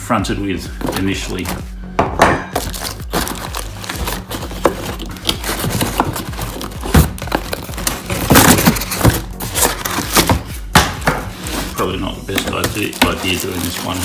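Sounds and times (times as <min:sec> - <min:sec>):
plastic wrapping rustling: 0:00.7 - 0:01.7, 0:02.5 - 0:14.0.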